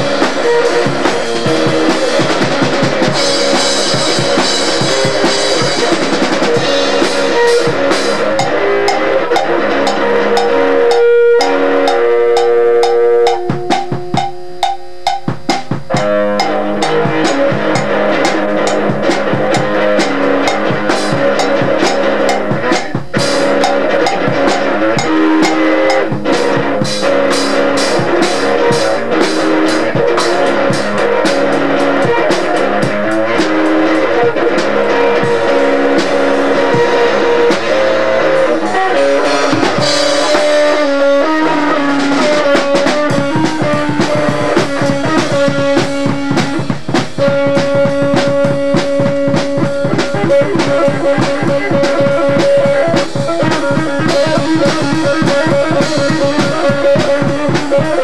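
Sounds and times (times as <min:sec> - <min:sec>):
drum kit beat: 0:00.0 - 0:58.0
guitar notes: 0:00.0 - 0:58.0.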